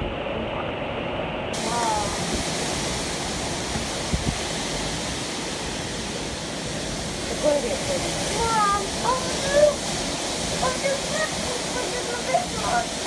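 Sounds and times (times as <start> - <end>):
storm wind rushing through trees: 0.0 - 13.0.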